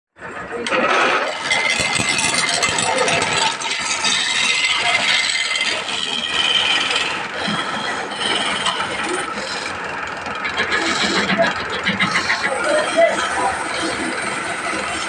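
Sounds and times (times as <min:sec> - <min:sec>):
tool scraping and rattling on wood: 0:00.6 - 0:15.0.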